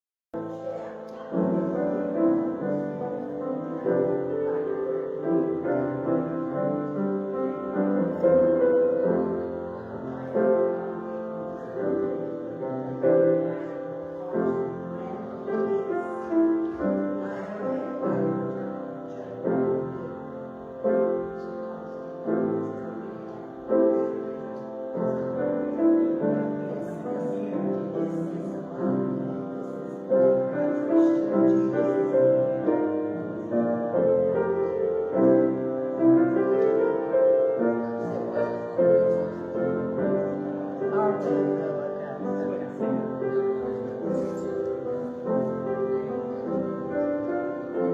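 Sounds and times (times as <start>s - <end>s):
instrumental piano music: 0.4s - 47.9s.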